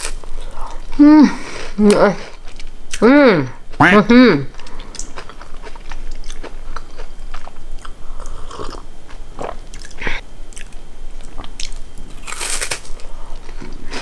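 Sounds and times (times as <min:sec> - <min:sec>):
person chewing crunchy food: 0:00.0 - 0:03.9, 0:04.5 - 0:14.0.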